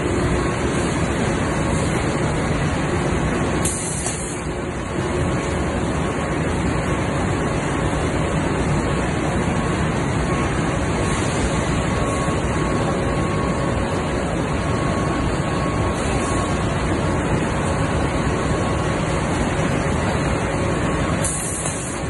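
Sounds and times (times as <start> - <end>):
faint high machine whine: 0.0 - 22.0
machine running with steady din: 0.0 - 22.0.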